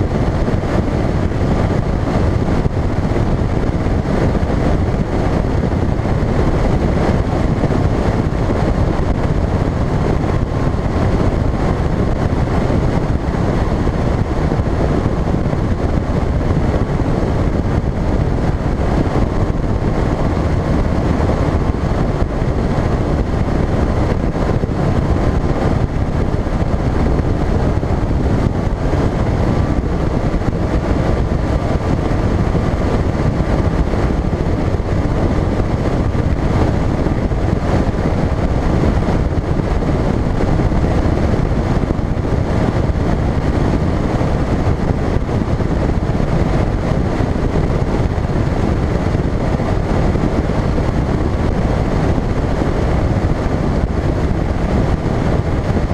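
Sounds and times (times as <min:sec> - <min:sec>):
outboard motor running: 0:00.0 - 0:55.9
wind buffeting microphone: 0:00.0 - 0:55.9.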